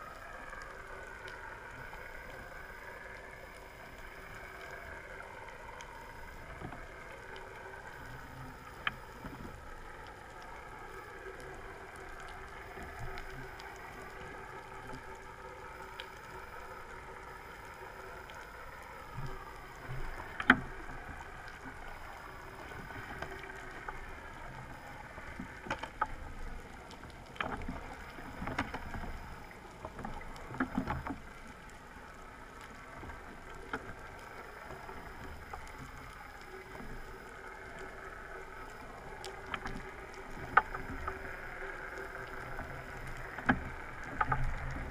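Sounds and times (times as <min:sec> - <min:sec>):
underwater wavering drone: 0:00.0 - 0:44.9
sharp underwater clicks: 0:00.6 - 0:31.8, 0:32.6 - 0:44.9.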